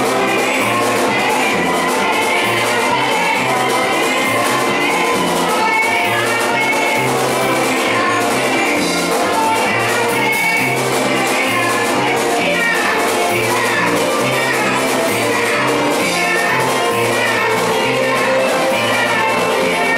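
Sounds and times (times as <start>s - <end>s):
drum beat: 0.0s - 19.9s
women singing into microphones: 0.0s - 19.9s.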